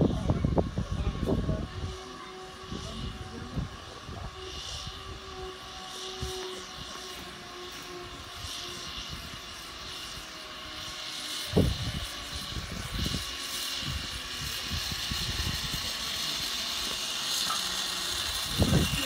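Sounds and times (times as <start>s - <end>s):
zipline pulleys whirring on cable: 0.0s - 19.0s.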